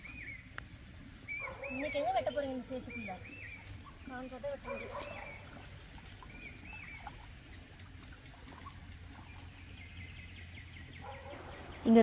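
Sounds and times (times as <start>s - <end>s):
insect drone: 0.0s - 12.0s
faint bird chirps: 1.2s - 12.0s.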